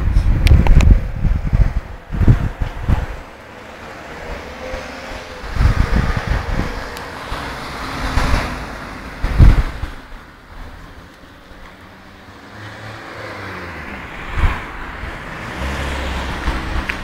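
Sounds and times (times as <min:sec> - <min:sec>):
passing road traffic hiss: 0:00.0 - 0:17.0
wind buffeting microphone: 0:00.0 - 0:17.0.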